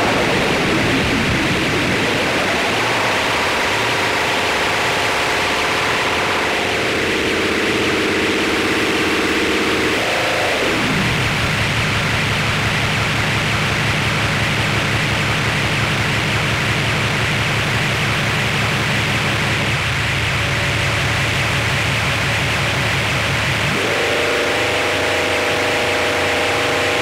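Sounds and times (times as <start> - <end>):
loud static hiss: 0.0 - 27.0
low throbbing drone: 0.0 - 27.0.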